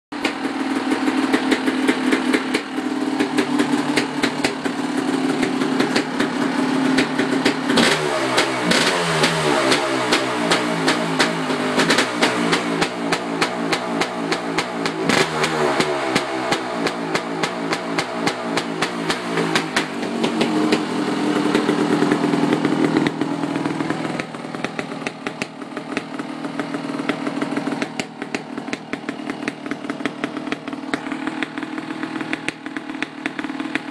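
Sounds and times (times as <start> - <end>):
two-stroke motorcycle engine revving: 0.2 - 33.9.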